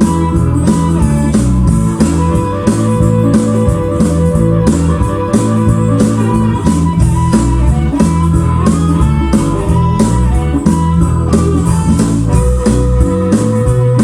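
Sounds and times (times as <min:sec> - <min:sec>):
blues instrumental over speakers: 0:00.0 - 0:14.0.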